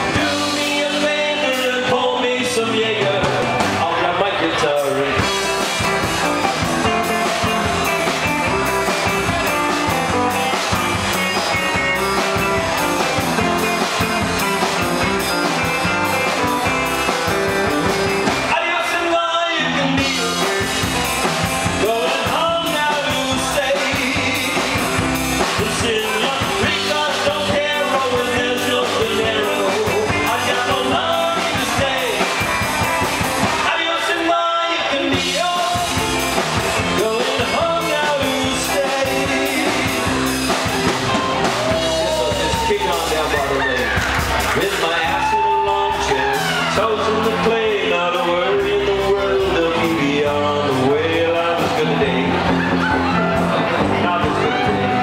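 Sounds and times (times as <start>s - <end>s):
person singing: 0.0s - 10.5s, 13.6s - 21.0s, 21.6s - 32.6s, 33.5s - 55.0s
live rock band playing: 0.0s - 55.0s.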